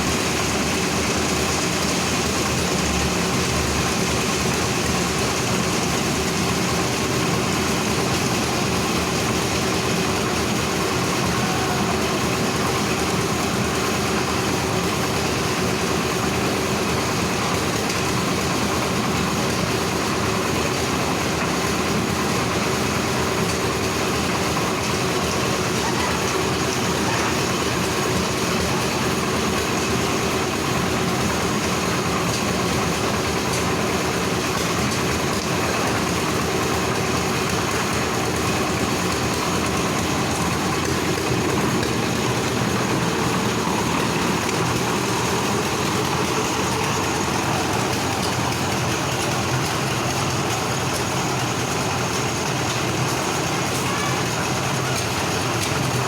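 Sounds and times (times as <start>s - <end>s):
engine running with low hum: 0.0s - 56.0s.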